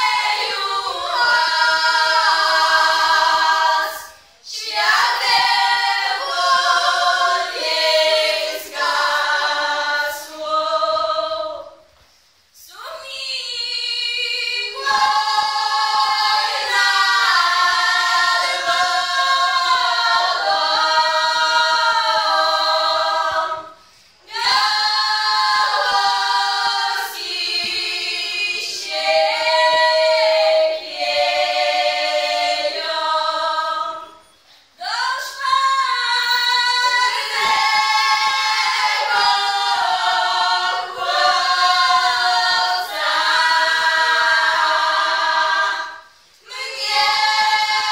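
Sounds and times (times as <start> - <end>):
women singing a cappella folk song: 0.0 - 47.9.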